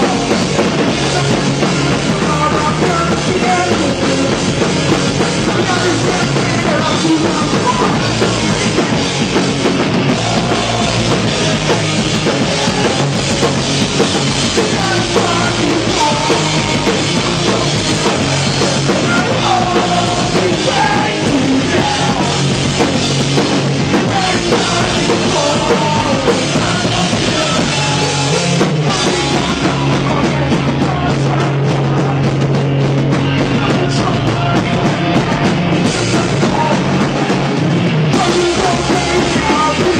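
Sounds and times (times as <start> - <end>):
pop-punk band playing live: 0.0 - 39.9.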